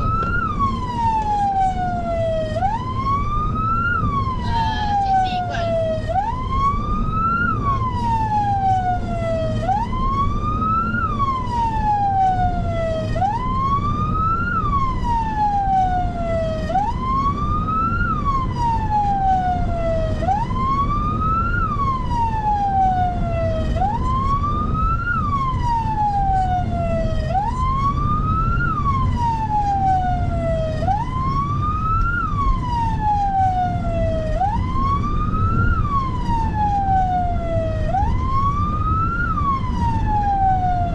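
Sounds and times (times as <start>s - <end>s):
ambulance siren wailing: 0.0s - 40.9s
low vehicle rumble: 0.0s - 40.9s.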